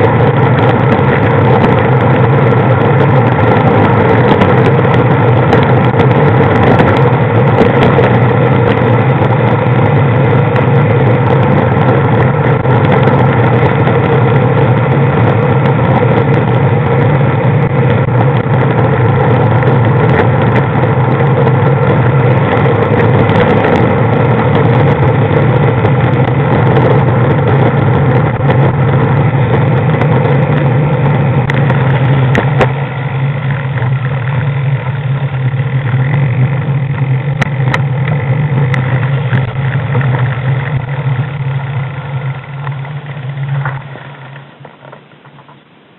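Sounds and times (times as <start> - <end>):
road and wind noise: 0.0 - 45.9
vehicle engine cruising: 0.0 - 45.9.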